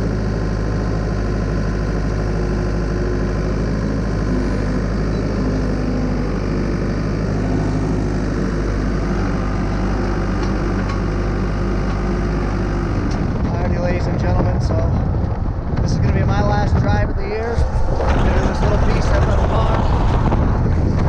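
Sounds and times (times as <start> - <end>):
loader engine running: 0.0 - 21.0.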